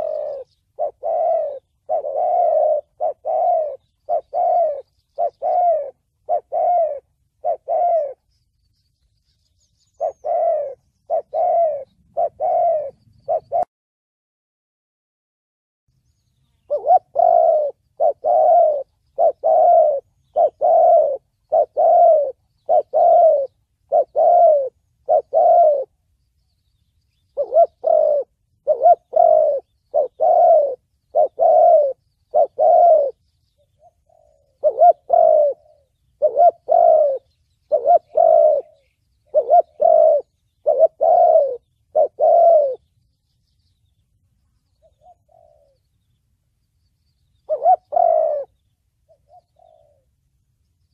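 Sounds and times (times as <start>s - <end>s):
dove cooing: 0.0s - 8.4s, 9.8s - 13.7s, 16.6s - 26.0s, 27.1s - 42.9s, 44.7s - 46.0s, 47.3s - 50.2s.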